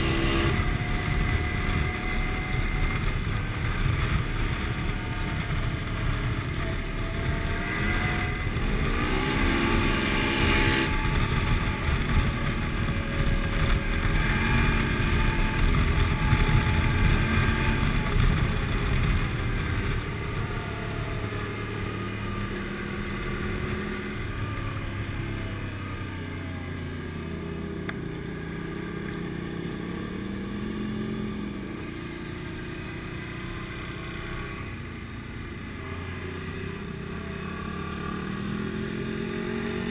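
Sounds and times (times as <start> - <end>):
atv engine revving: 0.0 - 39.9
road noise: 0.0 - 39.9.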